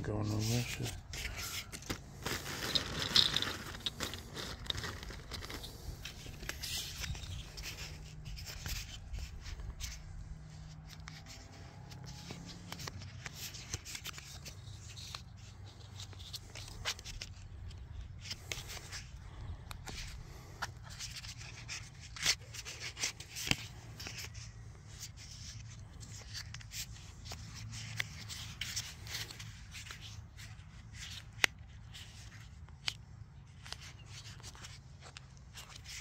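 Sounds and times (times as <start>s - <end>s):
plastic tubing rubbing and clicking: 0.0s - 33.0s, 33.6s - 36.0s.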